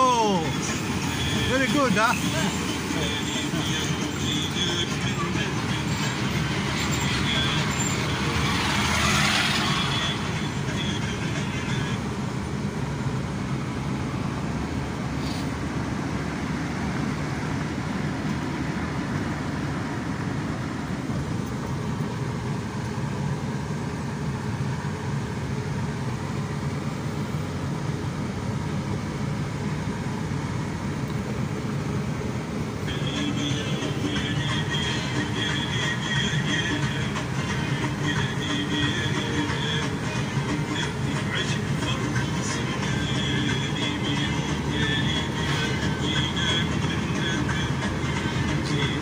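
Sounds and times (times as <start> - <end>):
car road and engine noise: 0.0 - 49.0
truck passing rush: 0.0 - 49.0.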